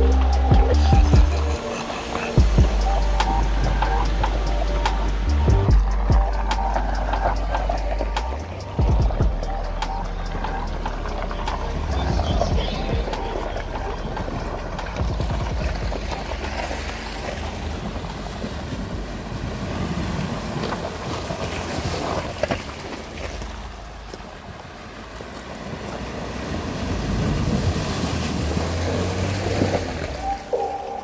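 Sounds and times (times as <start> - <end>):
tyres splashing through water: 0.0 - 31.0
vehicle engines running: 0.0 - 31.0.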